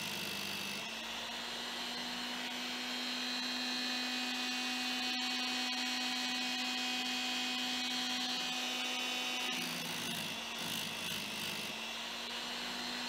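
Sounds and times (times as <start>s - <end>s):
sharpener motor humming: 0.0s - 13.0s.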